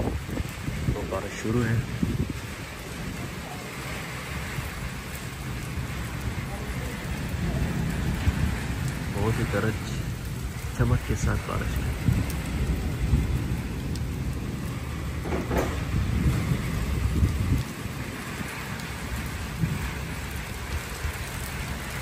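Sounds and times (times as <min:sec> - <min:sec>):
heavy rain on concrete: 0:00.0 - 0:22.0
thunder rumble: 0:00.0 - 0:22.0.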